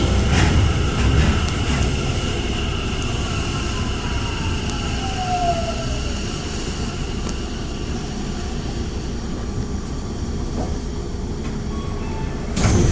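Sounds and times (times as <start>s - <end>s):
train wheels on rails: 0.0s - 12.9s.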